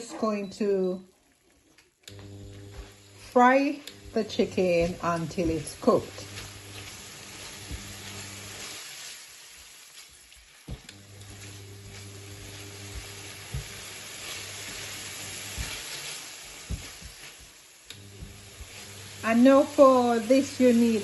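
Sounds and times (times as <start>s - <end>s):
chicken sizzling in pan: 2.2s - 21.0s.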